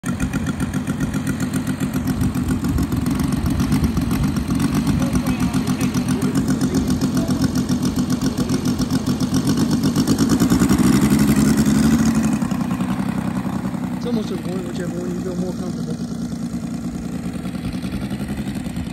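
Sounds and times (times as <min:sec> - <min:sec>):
model plane radial engine running: 0:00.0 - 0:18.9.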